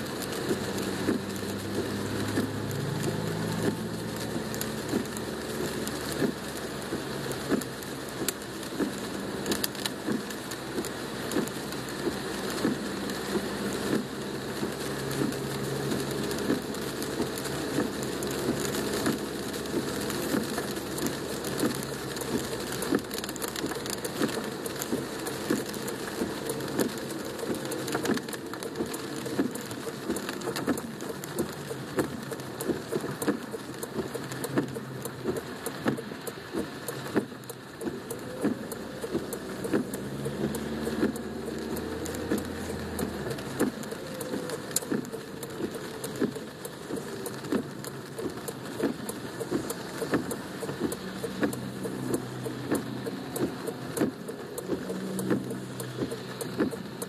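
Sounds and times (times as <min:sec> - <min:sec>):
low car hum: 0:00.0 - 0:57.0
rain patter on car roof: 0:00.0 - 0:57.0.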